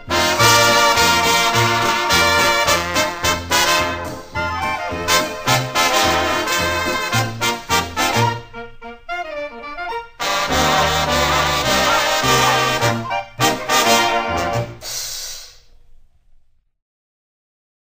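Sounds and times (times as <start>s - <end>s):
swing band with brass: 0.0s - 15.0s.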